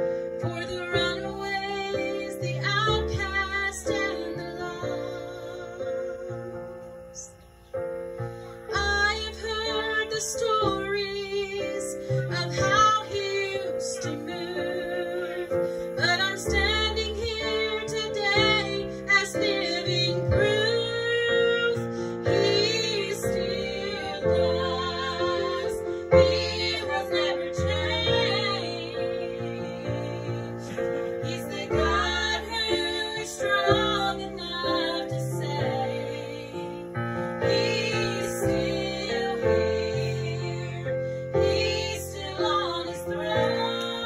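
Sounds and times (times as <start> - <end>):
keyboard piano chords: 0.0 - 44.0
woman singing gospel: 0.3 - 7.3, 8.7 - 44.0.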